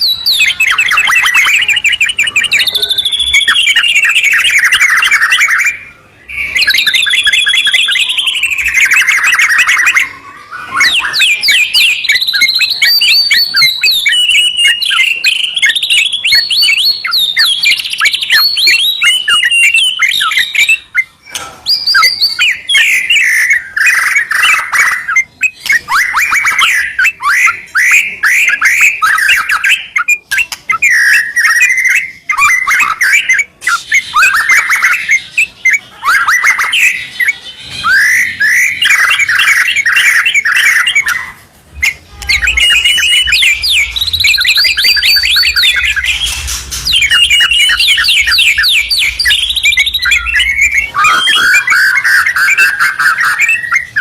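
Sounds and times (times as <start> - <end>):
birds singing trills: 0.0 - 54.0.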